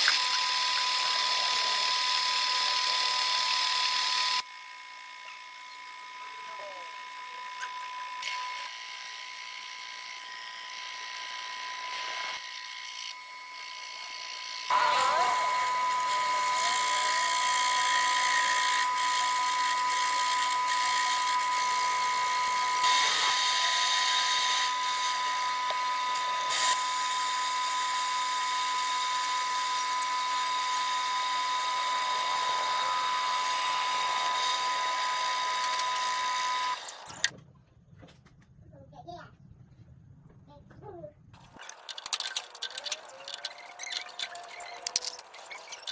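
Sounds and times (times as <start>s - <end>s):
lathe machine hum: 0.0s - 37.0s
metal lathe cutting whine: 0.0s - 37.3s.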